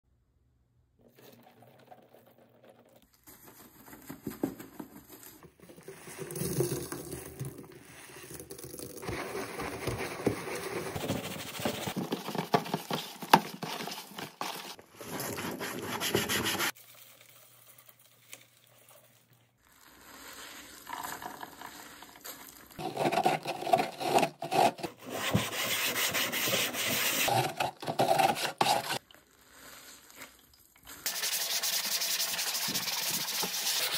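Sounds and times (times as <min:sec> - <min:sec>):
sponge scrubbing plastic bucket: 0:01.1 - 0:33.9.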